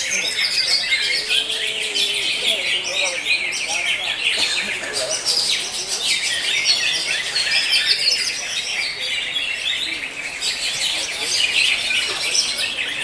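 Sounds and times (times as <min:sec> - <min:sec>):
bird singing chirps and trills: 0:00.0 - 0:13.0.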